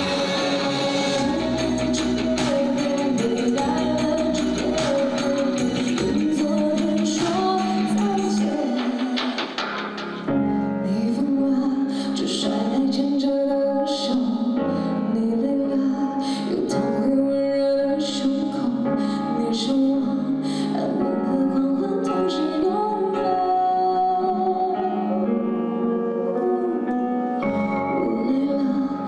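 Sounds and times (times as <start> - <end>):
woman singing a ballad: 0.0 - 9.6, 10.5 - 29.0
instrumental backing: 0.0 - 13.2, 18.1 - 29.0.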